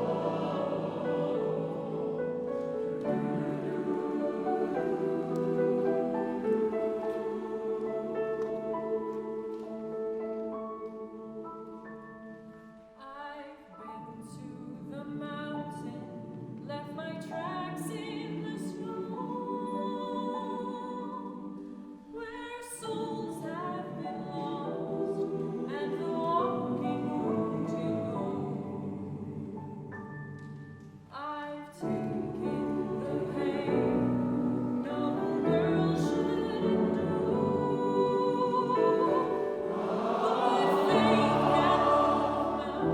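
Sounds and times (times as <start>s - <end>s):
choir singing: 0.0s - 12.5s, 13.6s - 30.4s, 31.6s - 42.9s.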